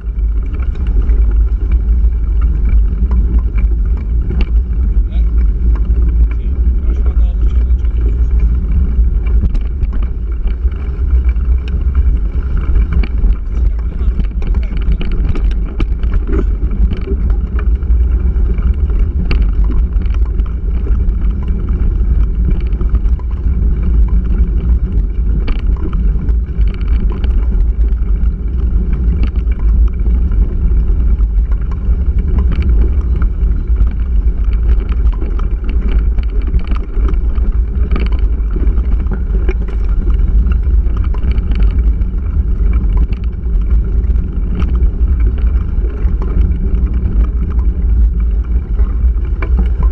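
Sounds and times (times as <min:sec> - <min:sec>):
bike rattling over stones: 0:00.0 - 0:49.9
bike rumbling over stony trail: 0:00.0 - 0:49.9
wind on microphone: 0:00.0 - 0:49.9.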